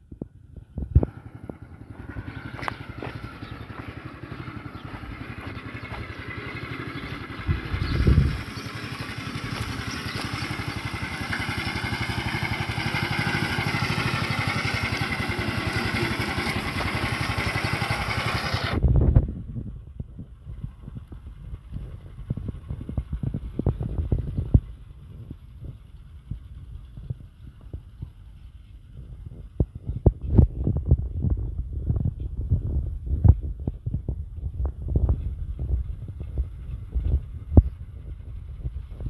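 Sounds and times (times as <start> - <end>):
small tractor engine running: 0.0 - 39.0.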